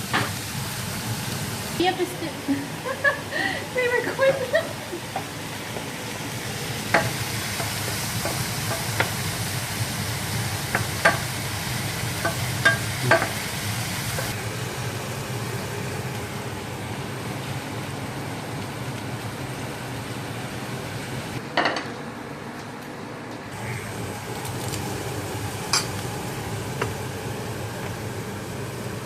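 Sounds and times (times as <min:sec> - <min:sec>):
burgers sizzling in a frying pan: 0:00.0 - 0:21.4, 0:23.6 - 0:29.0.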